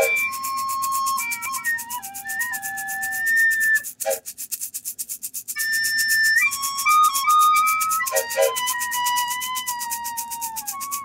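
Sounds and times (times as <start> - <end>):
flute-like lead melody: 0.0 - 4.2, 5.6 - 11.0
fast ticking percussion: 0.0 - 11.0.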